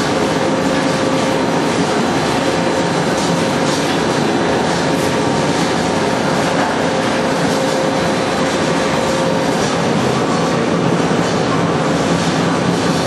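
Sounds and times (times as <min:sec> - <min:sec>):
pellet mill rumbling and rattling: 0:00.0 - 0:13.0.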